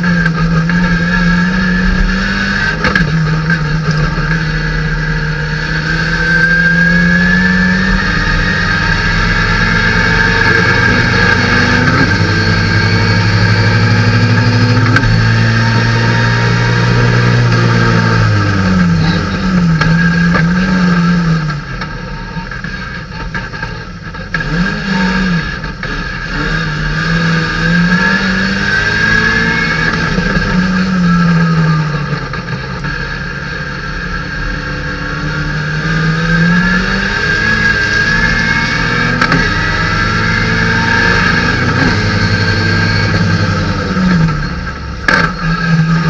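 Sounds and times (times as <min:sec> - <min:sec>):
engine throttle blips: 0:00.0 - 0:46.0
race car engine revving: 0:00.0 - 0:46.0.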